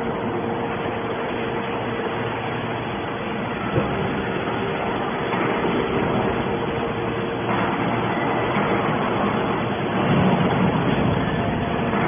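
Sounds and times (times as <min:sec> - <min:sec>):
baler machine humming with whine: 0:00.0 - 0:12.0.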